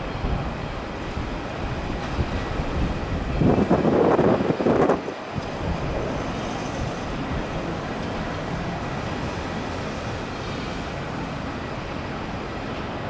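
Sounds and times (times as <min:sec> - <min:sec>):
wind on microphone: 0:00.0 - 0:11.5
jet engines rushing: 0:00.0 - 0:13.0.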